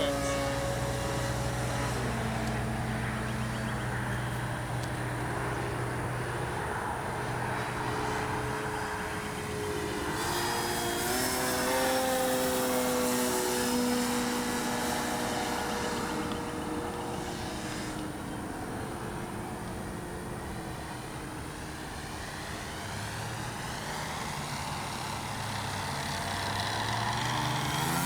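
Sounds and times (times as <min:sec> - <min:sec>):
model plane motor whining: 0:00.0 - 0:28.0.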